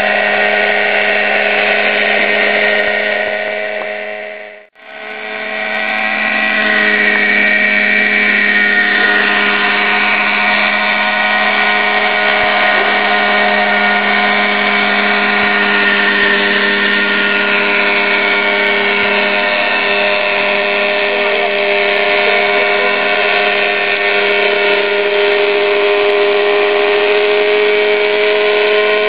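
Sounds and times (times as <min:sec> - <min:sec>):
rc helicopter engine buzzing: 0:00.0 - 0:29.0.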